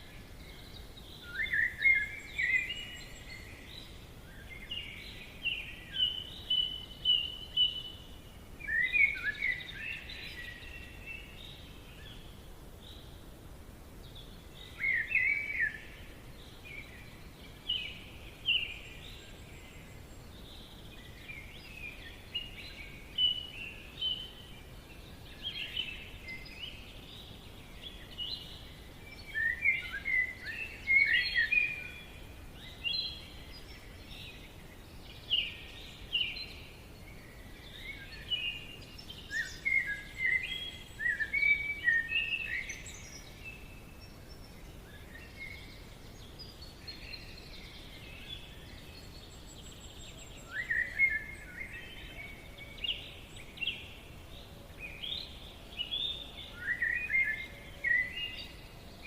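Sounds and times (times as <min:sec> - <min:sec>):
faint background hiss: 0:00.0 - 0:59.0
songbirds chirping and warbling: 0:00.0 - 0:59.0.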